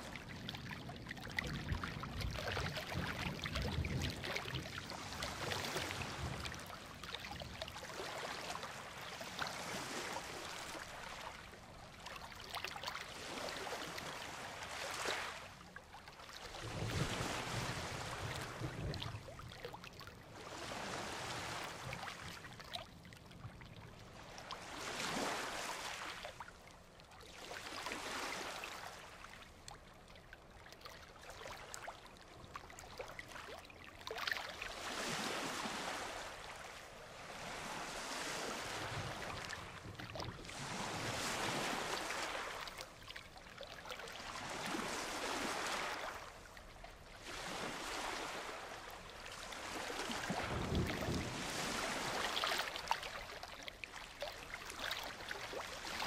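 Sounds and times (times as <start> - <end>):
waves breaking on beach: 0.0 - 22.7, 23.8 - 26.5, 27.3 - 29.5, 31.2 - 56.0.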